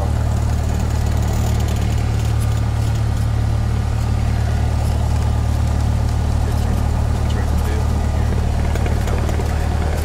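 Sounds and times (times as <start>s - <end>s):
light airplane engine droning: 0.0s - 10.0s.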